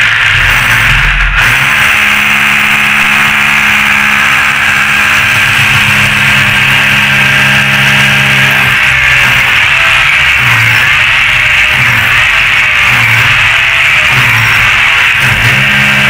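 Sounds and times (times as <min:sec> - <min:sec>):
electric drill boring into tile: 0:00.0 - 0:16.0.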